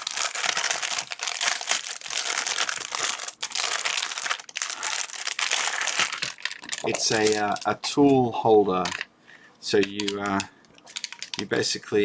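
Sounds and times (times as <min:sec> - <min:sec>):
plastic packaging crinkling: 0:00.0 - 0:08.2, 0:08.8 - 0:09.1, 0:09.8 - 0:11.8.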